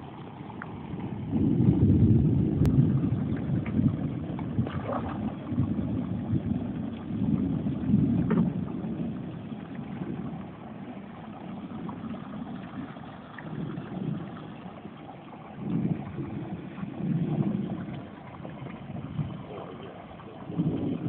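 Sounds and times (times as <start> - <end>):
wind buffeting microphone: 0.0 - 21.0
fish splashing in water: 3.0 - 21.0.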